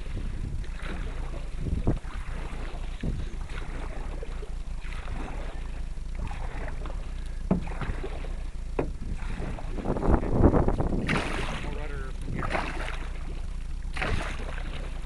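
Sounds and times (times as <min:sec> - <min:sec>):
paddle knock: 0:00.0 - 0:15.0
paddles splashing through water: 0:00.0 - 0:15.0.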